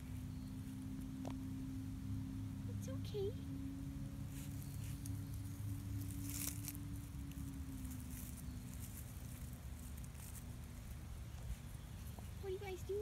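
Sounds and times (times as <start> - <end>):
low engine hum: 0.0 - 13.0
animals rustling through dry leaves: 1.8 - 13.0.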